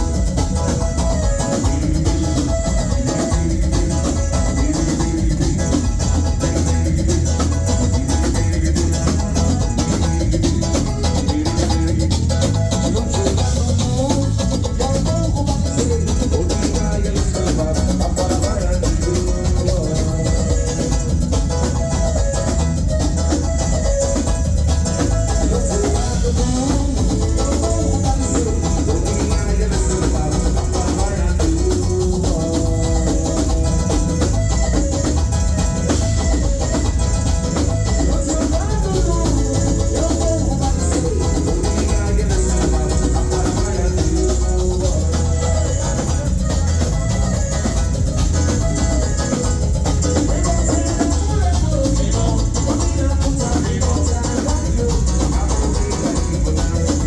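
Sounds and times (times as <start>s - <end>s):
bass line: 0.0s - 57.0s
drum kit beat with cymbals: 0.0s - 57.0s
guitar: 0.0s - 57.0s
live band playing: 0.0s - 57.0s.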